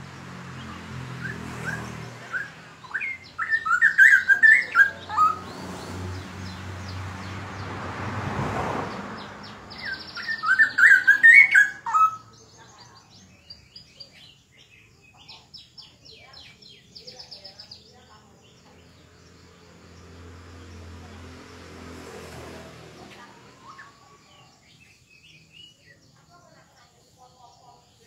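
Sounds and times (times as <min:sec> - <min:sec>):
bird singing melodious warbling: 0:00.0 - 0:07.7, 0:08.9 - 0:21.3, 0:23.0 - 0:28.0.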